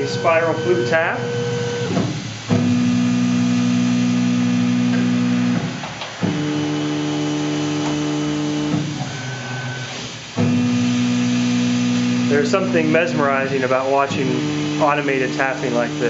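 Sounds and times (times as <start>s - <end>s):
mill spindle whining: 0.0s - 16.0s.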